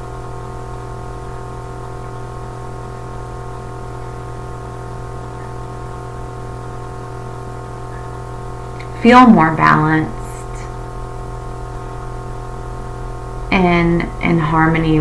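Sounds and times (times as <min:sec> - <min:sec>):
steady hum of held tones: 0:00.0 - 0:15.0.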